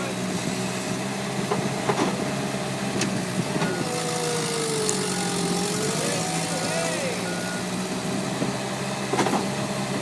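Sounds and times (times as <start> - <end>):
diesel engine hum with whine: 0.0 - 10.0.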